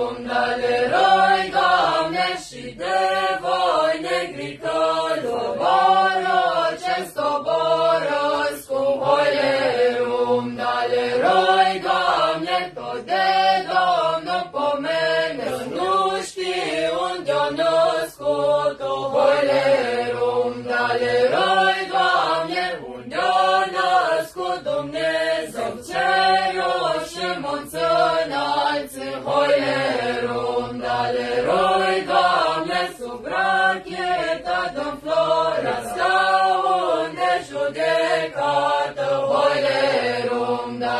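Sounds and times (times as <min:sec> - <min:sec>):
group singing a carol: 0:00.0 - 0:40.9.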